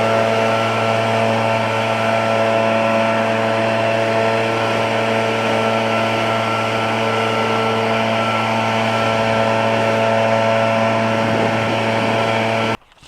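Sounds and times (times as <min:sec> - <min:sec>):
leaf blower engine droning: 0:00.0 - 0:13.0.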